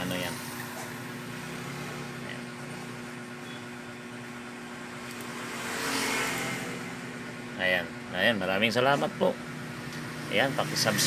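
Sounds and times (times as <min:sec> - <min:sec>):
mechanical hum with low drone: 0:00.0 - 0:11.0.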